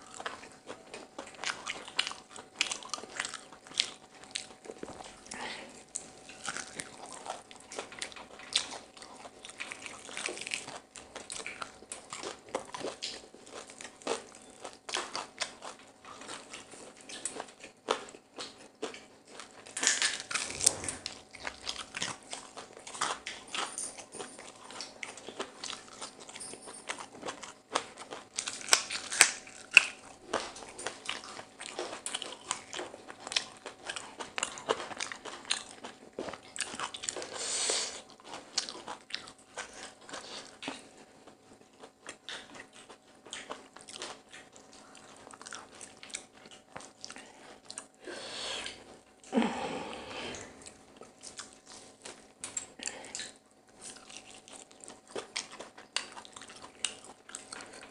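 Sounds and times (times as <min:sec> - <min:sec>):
biting and chewing crispy food: 0:00.0 - 0:57.9.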